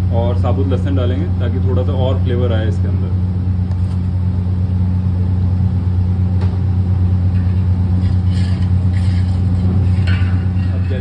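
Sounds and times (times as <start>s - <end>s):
kitchen equipment drone: 0.0s - 11.0s.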